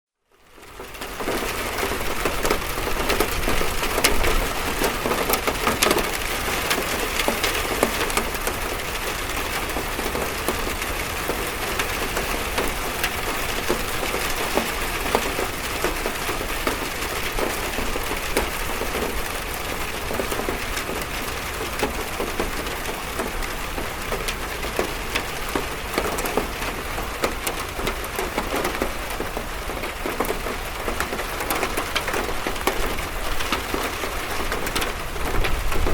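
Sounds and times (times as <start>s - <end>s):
rain on a metal roof: 0.2s - 35.9s.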